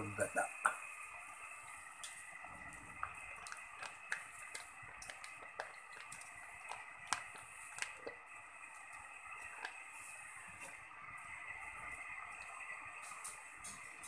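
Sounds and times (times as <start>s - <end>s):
sauce simmering popping: 0.7s - 14.0s
liquid pouring: 1.4s - 14.0s.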